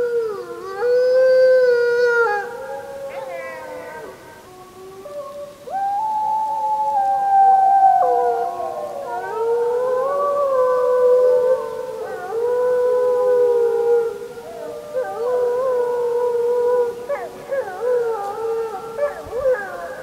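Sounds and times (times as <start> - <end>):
wolves howling: 0.0 - 20.0.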